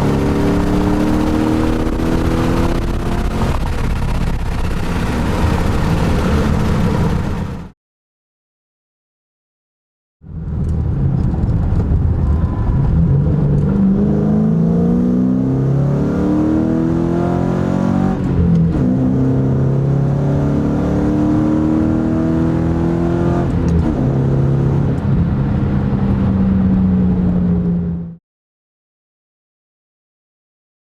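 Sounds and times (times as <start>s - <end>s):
car engine accelerating: 0.0s - 7.7s, 10.3s - 28.2s.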